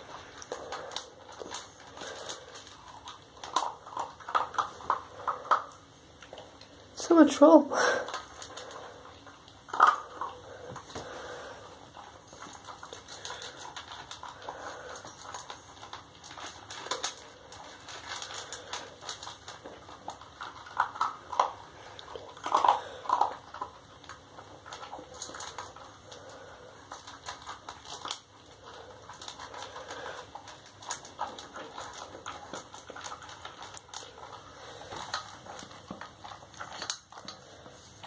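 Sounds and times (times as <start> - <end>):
dog crunching dry kibble: 0.0 - 38.0.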